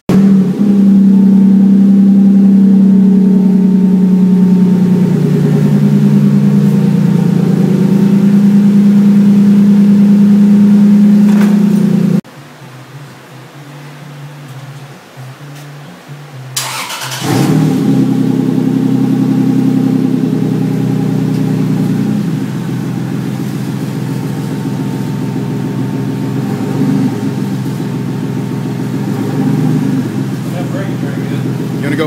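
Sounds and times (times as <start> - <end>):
car engine starting and idling: 0.0 - 32.0.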